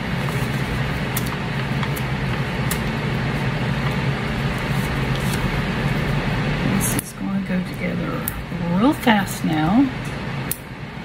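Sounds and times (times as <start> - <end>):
fan humming and hissing: 0.0 - 11.0.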